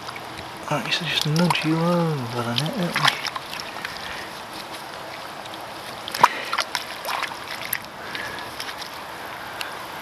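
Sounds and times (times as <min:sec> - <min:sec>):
fish splashing in water: 0:00.0 - 0:10.0
river water lapping at bank: 0:00.0 - 0:10.0.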